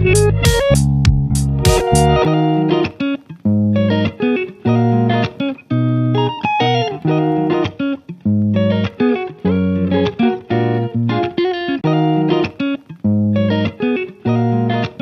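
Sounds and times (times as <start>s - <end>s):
plucked guitar: 0.0s - 15.0s.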